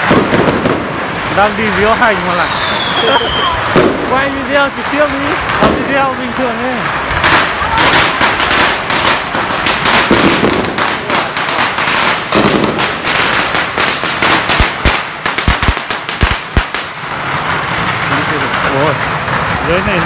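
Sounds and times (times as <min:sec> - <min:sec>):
firecrackers crackling: 0:00.0 - 0:20.0
heavy bangs: 0:00.0 - 0:20.0.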